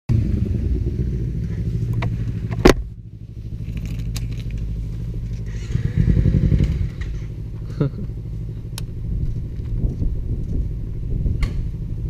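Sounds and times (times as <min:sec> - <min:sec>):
motorcycle engine idling: 0:00.1 - 0:12.0.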